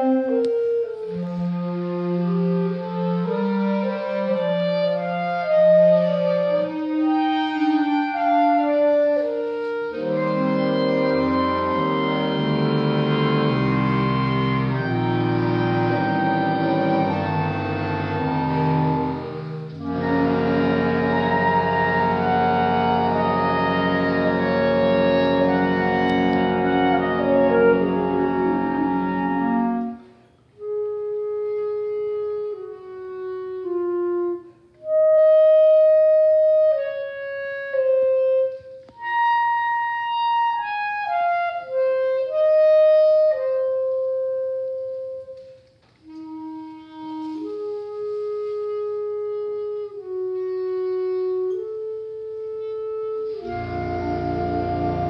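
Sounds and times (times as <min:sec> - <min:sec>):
clarinet choir playing chords: 0:00.0 - 0:55.0
contrabass clarinet low bass: 0:00.0 - 0:55.0
held clarinet notes: 0:00.0 - 0:55.0.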